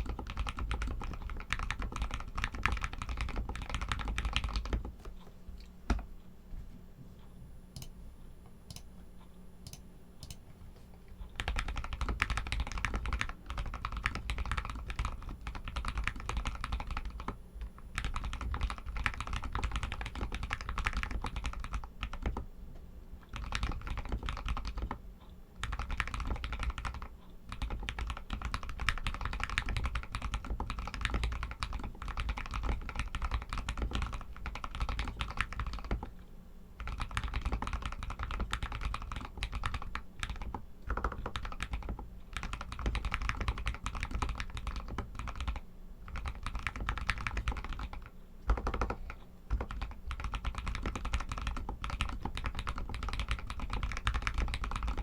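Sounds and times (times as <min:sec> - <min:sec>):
mechanical keyboard typing: 0:00.0 - 0:05.0, 0:11.4 - 0:22.5, 0:23.3 - 0:25.0, 0:25.6 - 0:36.2, 0:36.8 - 0:55.0.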